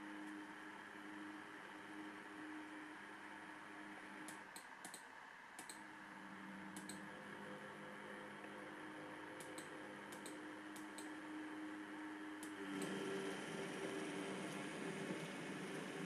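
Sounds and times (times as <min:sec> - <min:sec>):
faint motor hum: 0:00.0 - 0:16.0.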